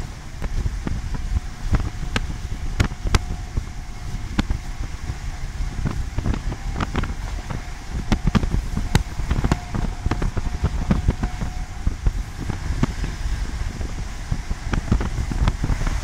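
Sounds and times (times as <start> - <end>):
train coach rumble: 0.0 - 16.0
wheels clicking on track: 0.0 - 16.0.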